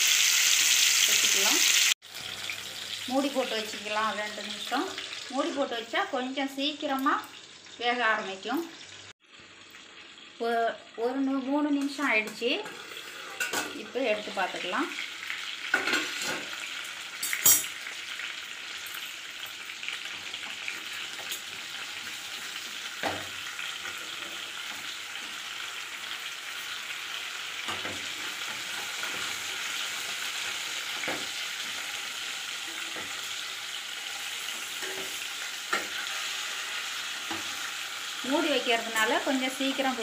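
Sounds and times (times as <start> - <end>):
chicken sizzling in oil: 0.0 - 40.0.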